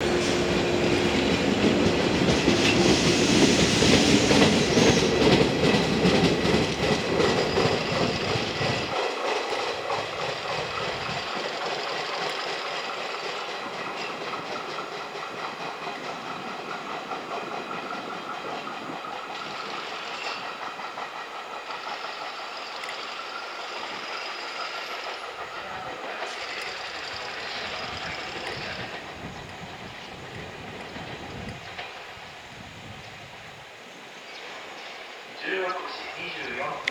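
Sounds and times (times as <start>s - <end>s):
electric train passing on rails: 0.0s - 36.9s.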